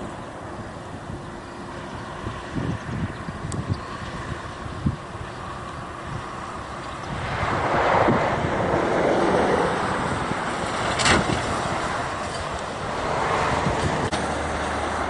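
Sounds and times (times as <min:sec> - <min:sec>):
distant jet engine roar: 0:00.0 - 0:15.0
wind buffeting microphone: 0:00.0 - 0:15.0.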